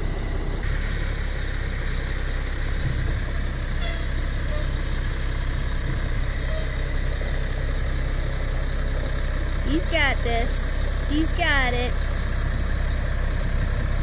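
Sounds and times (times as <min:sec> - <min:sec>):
vehicle engine running at low revs: 0:00.0 - 0:14.0.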